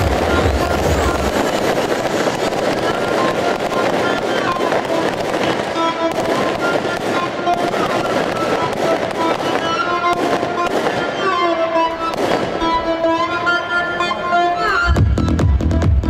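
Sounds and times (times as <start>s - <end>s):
fireworks bangs and crackles: 0.0s - 13.2s
music with steady melody: 0.0s - 16.0s.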